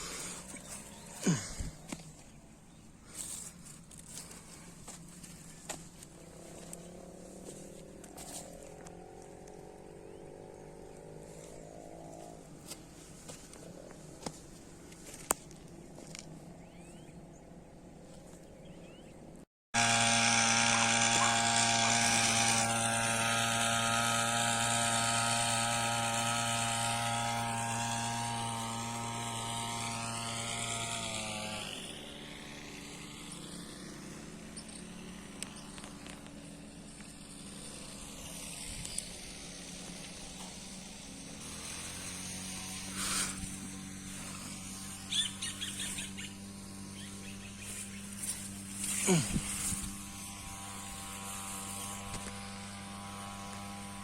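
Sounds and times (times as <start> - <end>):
small motor humming: 0.0 - 54.0.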